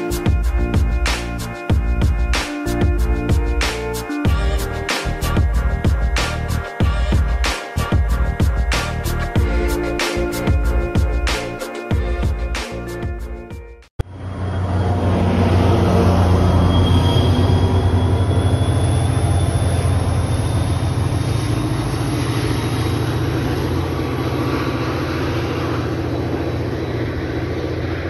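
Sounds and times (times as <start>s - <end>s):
train engine rumble: 0.0s - 13.4s, 14.0s - 28.0s.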